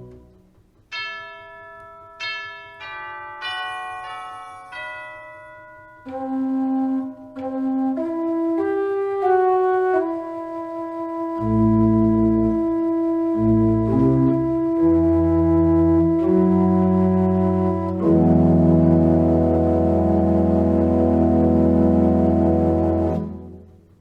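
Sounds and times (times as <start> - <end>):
organ music: 0.0 - 24.0.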